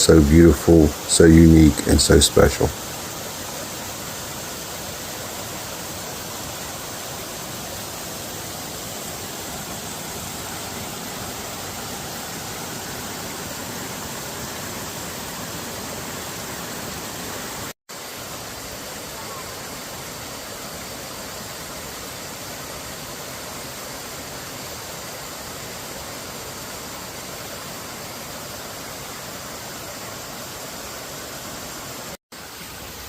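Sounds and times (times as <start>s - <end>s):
creek pouring over cascades: 0.0s - 33.0s.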